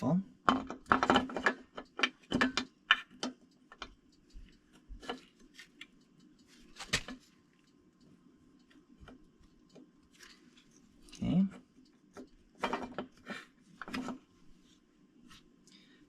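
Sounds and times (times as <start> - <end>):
metallic clicks of engine parts: 0.4 - 14.8.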